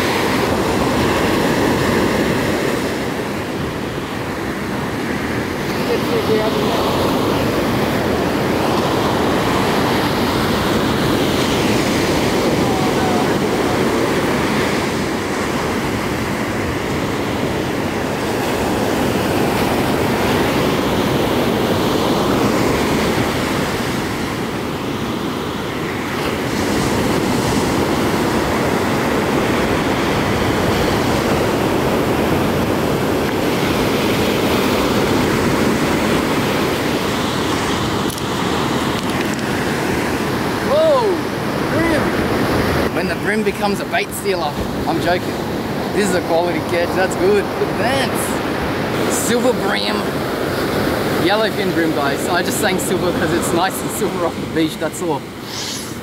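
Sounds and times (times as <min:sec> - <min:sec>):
ocean surf breaking on beach: 0:00.0 - 0:56.0.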